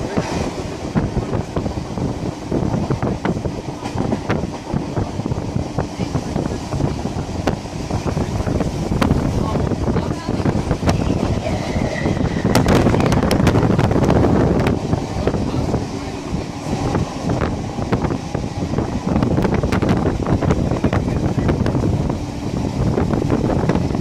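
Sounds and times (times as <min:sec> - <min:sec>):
train wheels rumbling on rails: 0:00.0 - 0:24.0
wind buffeting microphone: 0:00.0 - 0:24.0.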